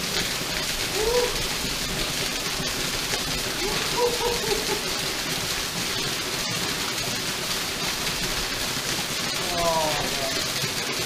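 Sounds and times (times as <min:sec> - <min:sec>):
waterfall pouring and splashing: 0:00.0 - 0:11.0.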